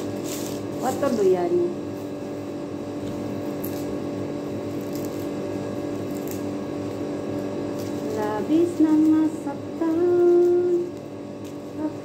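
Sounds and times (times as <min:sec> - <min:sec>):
dry leaves crackling: 0:00.0 - 0:02.2, 0:03.0 - 0:12.0
steady tonal hum: 0:00.0 - 0:12.0.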